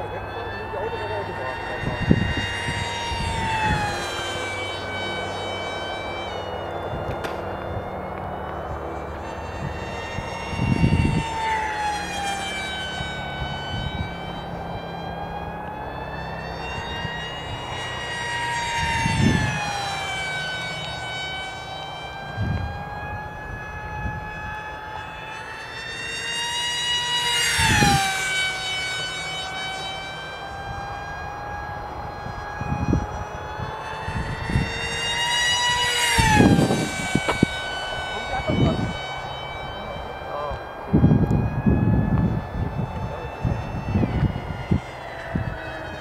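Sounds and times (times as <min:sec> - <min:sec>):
model jet engine whine: 0:00.0 - 0:46.0.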